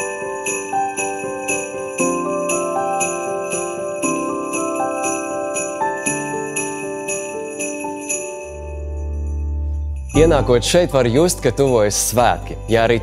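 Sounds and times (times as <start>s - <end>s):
jingle bells shaken: 0.0s - 13.0s.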